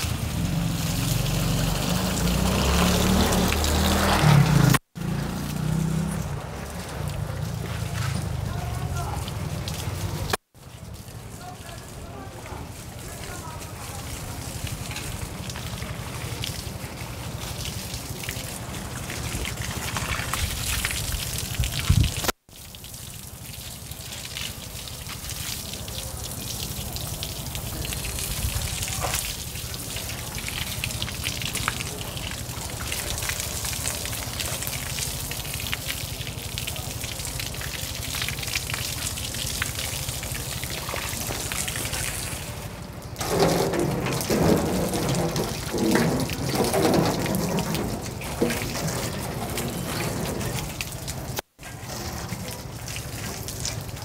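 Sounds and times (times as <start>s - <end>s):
water spraying from garden hose: 0.0s - 54.0s.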